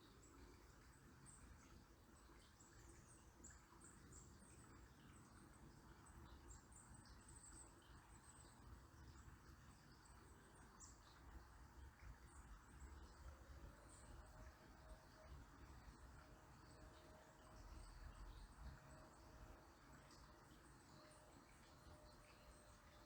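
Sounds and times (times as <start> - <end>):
low steady background rush: 0.0 - 23.0.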